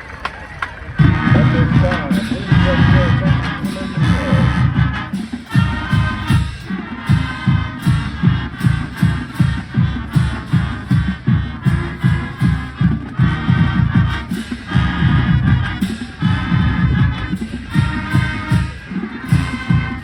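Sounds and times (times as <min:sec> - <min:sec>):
marching band music: 0:00.0 - 0:20.0.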